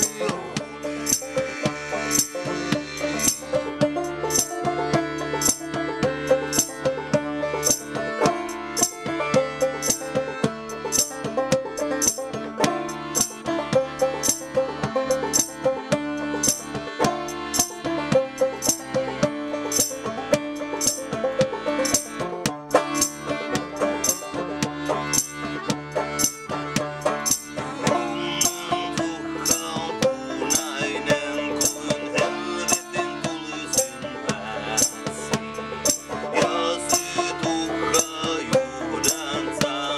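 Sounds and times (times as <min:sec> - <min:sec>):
plucked banjo: 0:00.0 - 0:39.9
sharp percussive ticks: 0:00.0 - 0:39.9.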